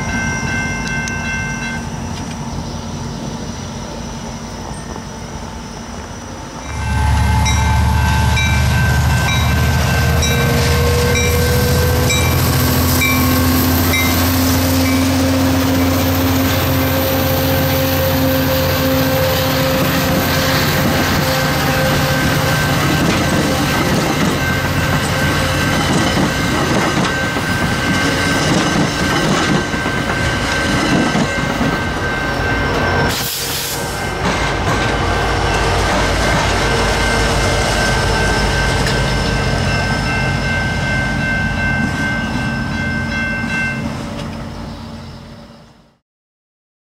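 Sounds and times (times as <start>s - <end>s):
crossing bell dinging: 0.0s - 2.6s, 6.6s - 45.2s
train wheels rumbling and clattering: 0.0s - 44.6s
train deep hum: 0.0s - 45.8s.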